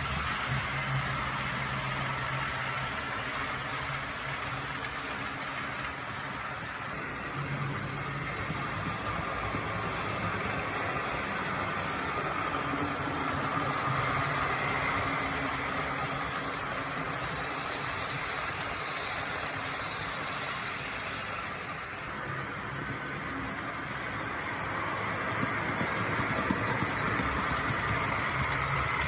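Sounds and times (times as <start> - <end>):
model train motor and wheel hum: 0.0 - 29.0.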